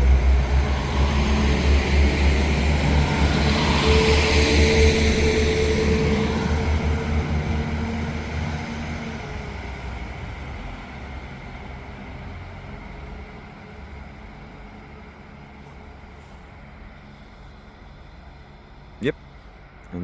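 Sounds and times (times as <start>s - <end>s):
diesel train engines running: 0.0s - 20.0s.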